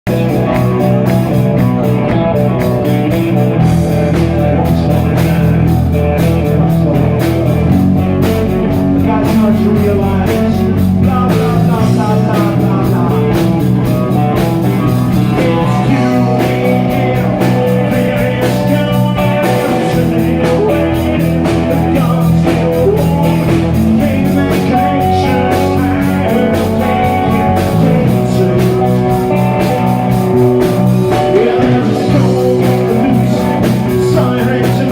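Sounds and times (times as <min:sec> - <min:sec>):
bass guitar: 0:00.0 - 0:34.9
drum kit: 0:00.0 - 0:34.9
electric guitar: 0:00.0 - 0:34.9.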